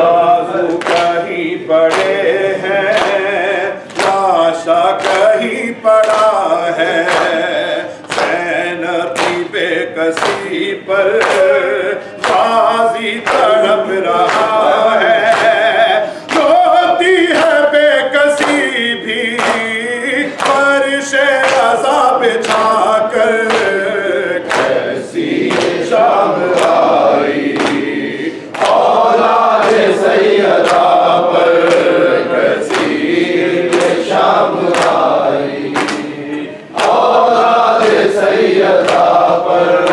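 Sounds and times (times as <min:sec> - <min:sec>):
man singing a lament: 0:00.0 - 0:39.9
men chanting along: 0:00.0 - 0:39.9.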